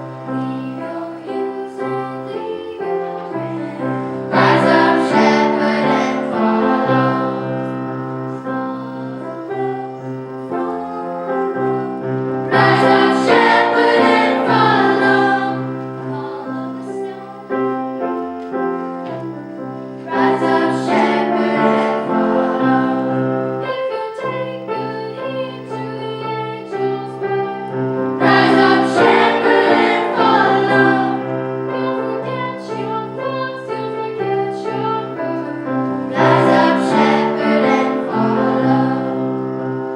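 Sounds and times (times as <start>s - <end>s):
choir singing: 0.0s - 39.9s
piano accompaniment: 0.0s - 39.9s.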